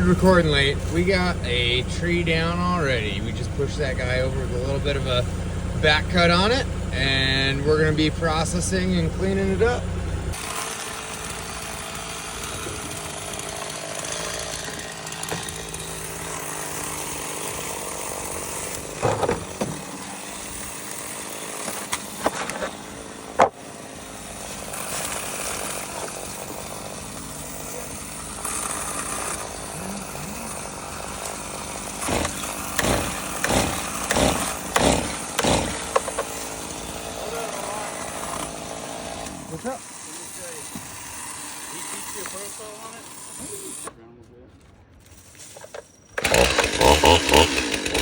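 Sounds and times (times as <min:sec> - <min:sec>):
chainsaw cutting wood: 0:00.0 - 0:44.0, 0:45.0 - 0:48.0.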